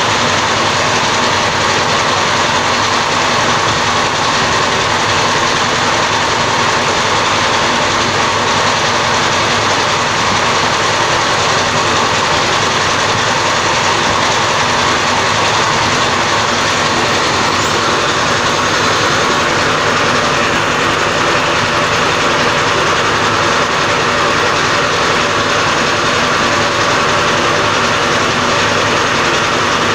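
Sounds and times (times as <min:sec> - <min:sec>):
diesel engine running steadily: 0:00.0 - 0:29.9.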